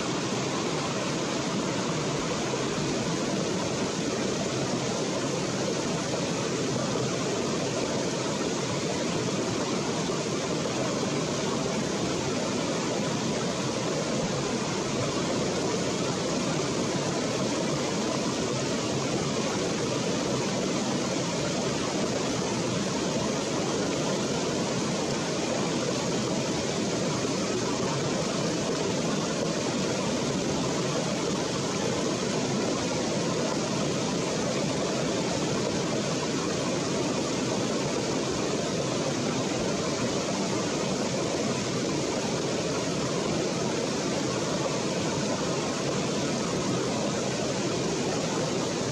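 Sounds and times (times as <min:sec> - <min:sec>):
stream flowing over rocks: 0:00.0 - 0:48.9.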